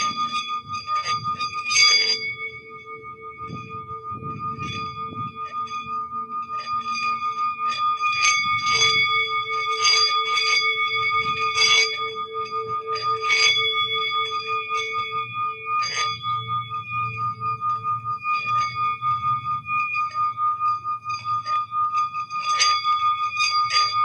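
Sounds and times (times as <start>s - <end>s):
singing bowls ringing: 0.0s - 24.0s.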